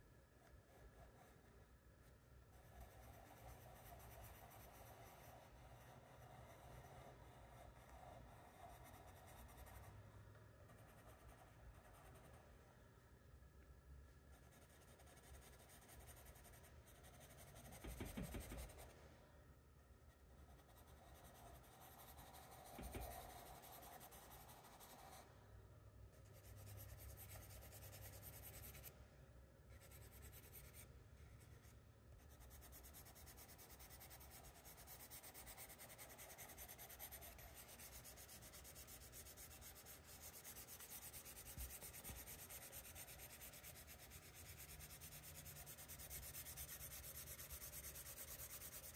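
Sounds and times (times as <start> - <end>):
charcoal scratching on paper: 0.4 - 1.6, 2.5 - 10.1, 14.3 - 18.9, 20.1 - 25.2, 26.2 - 28.9, 29.7 - 30.9, 31.5 - 48.9.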